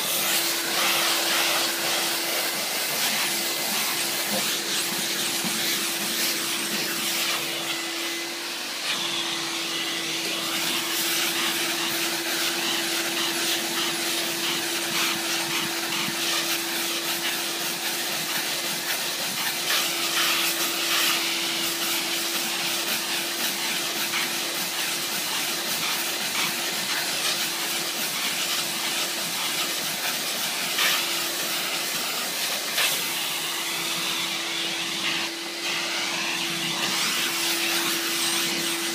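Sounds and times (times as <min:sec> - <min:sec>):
steam hissing from nozzle: 0:00.0 - 0:38.9.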